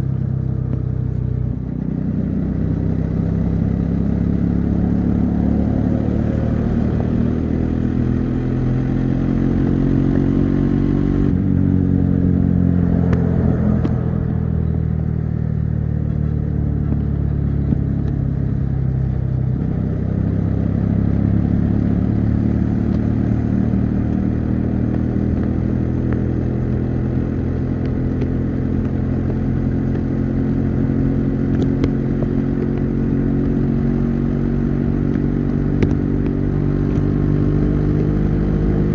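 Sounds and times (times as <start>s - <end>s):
motorcycle engine at highway speed: 0.0s - 38.9s.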